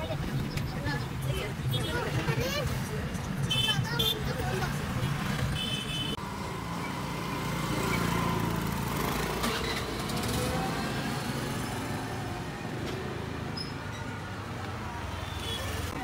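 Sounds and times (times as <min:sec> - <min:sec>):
scooter engines passing: 0:00.0 - 0:16.0
street noise: 0:00.0 - 0:16.0.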